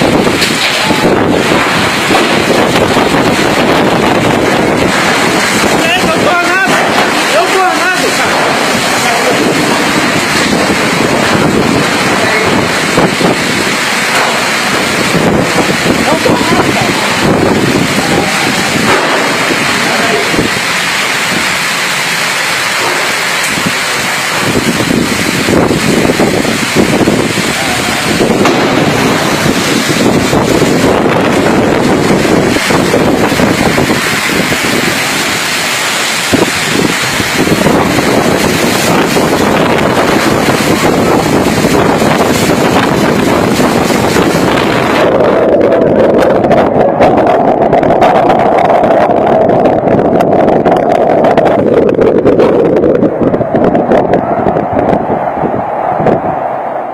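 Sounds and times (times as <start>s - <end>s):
heavy rain: 0.0s - 56.9s
wind: 0.0s - 56.9s
wind buffeting microphone: 0.0s - 56.9s.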